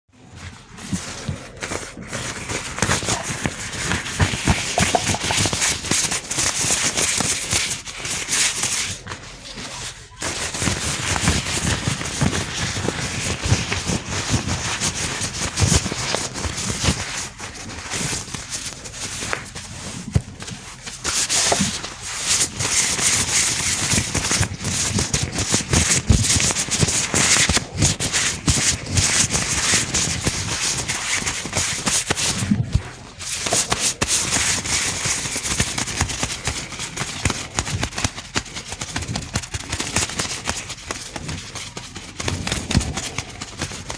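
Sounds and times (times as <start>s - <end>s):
gloved hands rubbing and crinkling: 0.2s - 43.9s.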